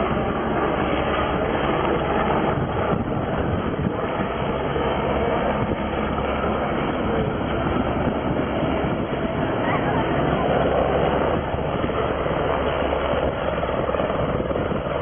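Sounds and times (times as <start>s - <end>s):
helicopter rotor and turbine: 0.0s - 15.0s.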